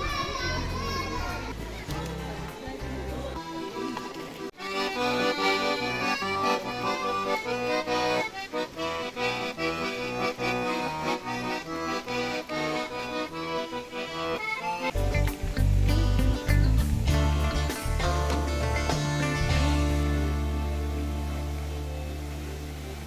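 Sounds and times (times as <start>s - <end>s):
accordion playing lively tune: 0.0s - 22.8s.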